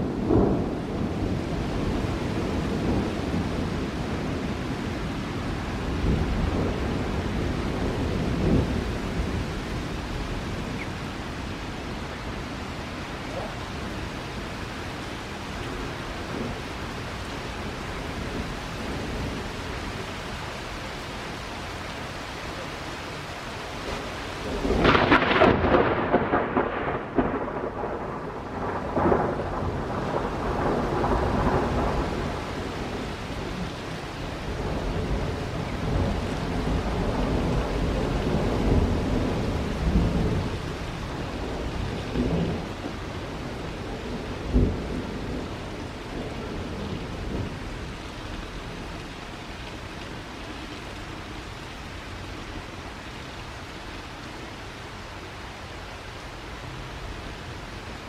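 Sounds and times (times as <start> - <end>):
thunder rumbling: 0.0 - 20.6, 22.0 - 51.5
rain hiss: 0.0 - 58.0.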